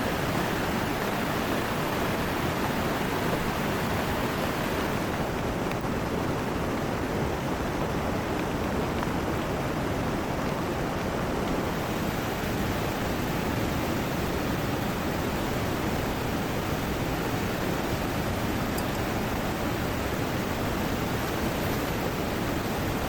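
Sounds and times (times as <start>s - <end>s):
heavy rain: 0.0s - 23.0s
river water rushing: 0.0s - 23.0s.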